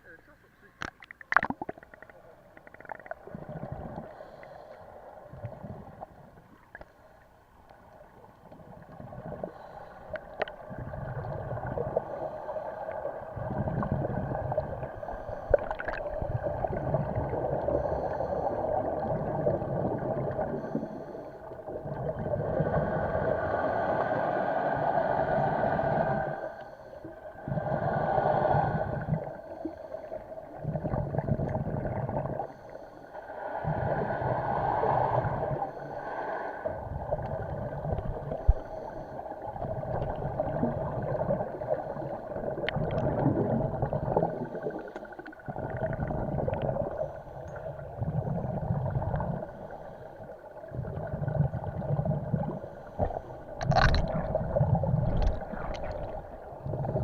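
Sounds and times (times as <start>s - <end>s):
regulator bubbles gurgling underwater: 0.8s - 32.8s, 33.5s - 57.0s.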